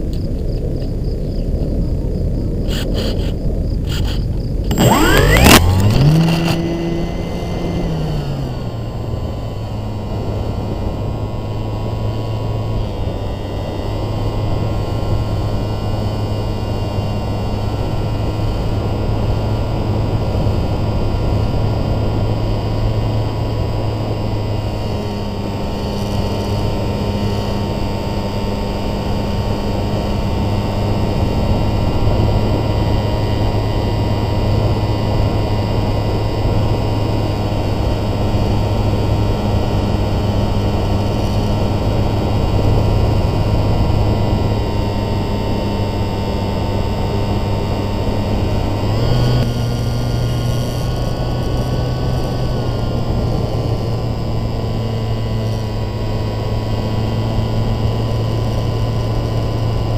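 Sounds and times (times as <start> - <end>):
model airplane motor and propeller: 0.0 - 59.9.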